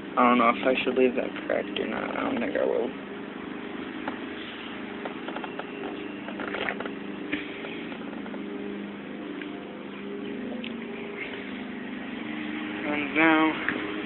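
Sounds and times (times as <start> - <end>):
go-kart engine idling: 0.0 - 14.0.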